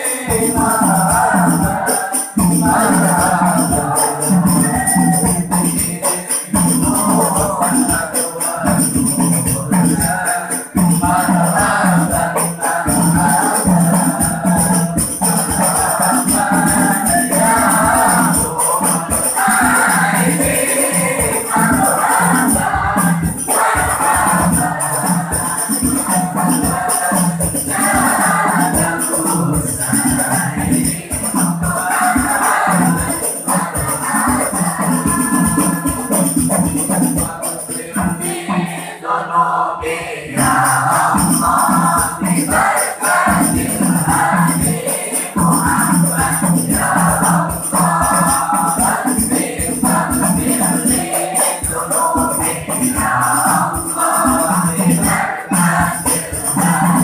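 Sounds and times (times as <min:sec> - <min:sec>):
tambourines jingling: 0:00.0 - 0:38.0, 0:40.4 - 0:57.0
frame drums beating: 0:00.0 - 0:38.8, 0:40.3 - 0:57.0
crowd singing a chant: 0:00.0 - 0:57.0.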